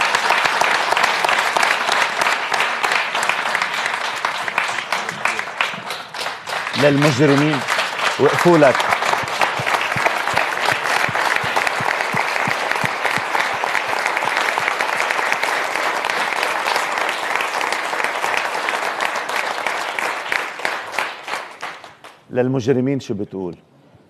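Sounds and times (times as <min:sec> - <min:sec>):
audience applauding: 0:00.0 - 0:22.2.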